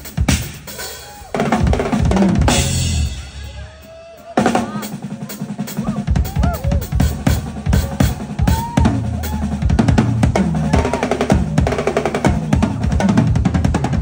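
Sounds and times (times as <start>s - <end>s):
drum kit playing: 0.0s - 14.0s.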